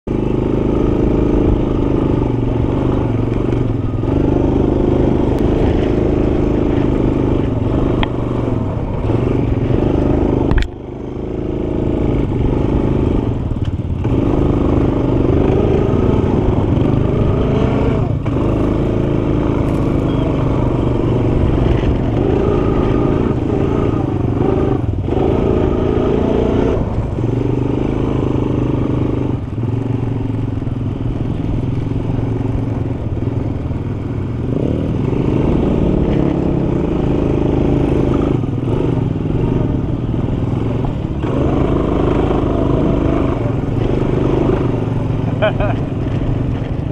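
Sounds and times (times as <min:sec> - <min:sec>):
quad bike engine revving: 0:00.1 - 0:46.9.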